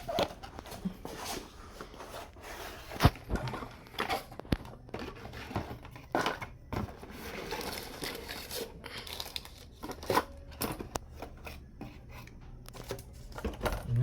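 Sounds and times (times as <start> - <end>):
packaging rustling and tearing: 0.0 - 11.5.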